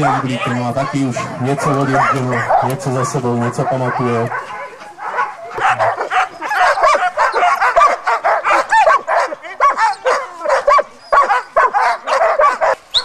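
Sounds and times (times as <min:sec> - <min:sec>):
sled dogs barking and yelping: 0:00.0 - 0:13.0.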